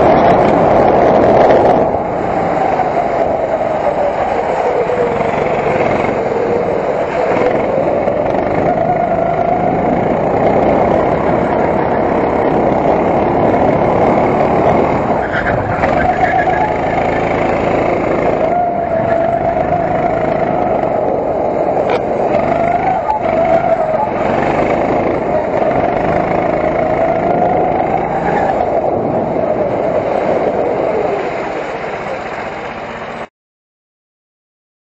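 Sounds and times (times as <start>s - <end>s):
go-kart engine running hard: 0.0s - 33.3s.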